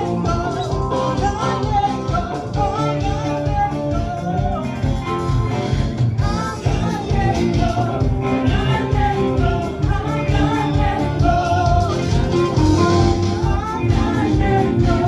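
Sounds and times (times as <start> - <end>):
people singing: 0.0 - 5.0, 6.2 - 15.0
electric and acoustic guitars: 0.0 - 15.0
keyboard: 0.0 - 15.0
steady beat: 0.0 - 15.0.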